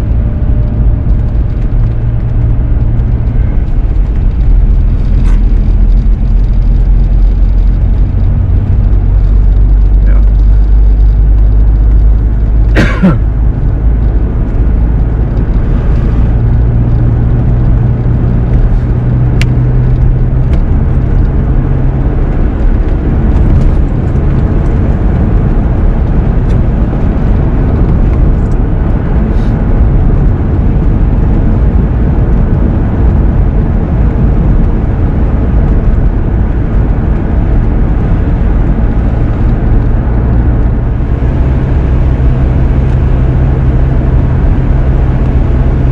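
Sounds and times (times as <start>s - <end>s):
engine and tyre drone in car: 0.0s - 45.9s.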